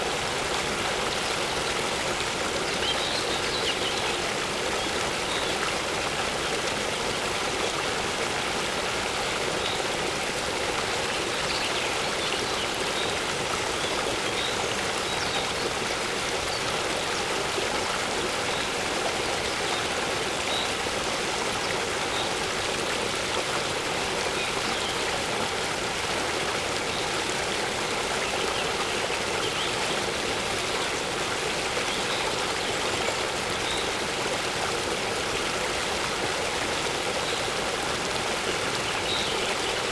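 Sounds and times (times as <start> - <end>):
waterfall: 0.0 - 39.9.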